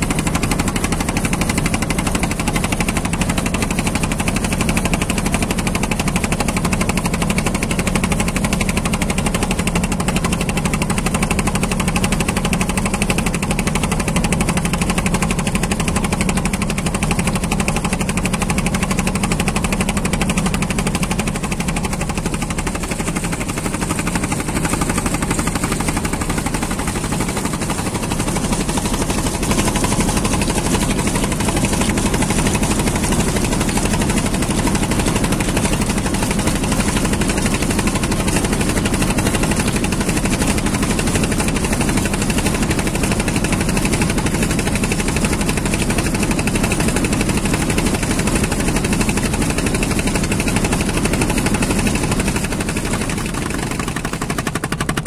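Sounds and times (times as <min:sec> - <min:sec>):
boat engine running steadily: 0:00.0 - 0:55.0
water rushing along hull: 0:00.0 - 0:55.0.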